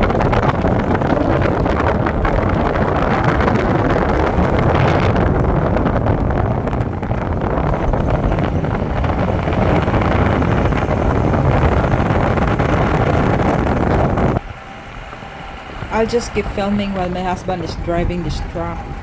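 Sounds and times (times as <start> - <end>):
moving truck rumble: 0.0 - 19.0
wind buffeting microphone: 0.0 - 19.0.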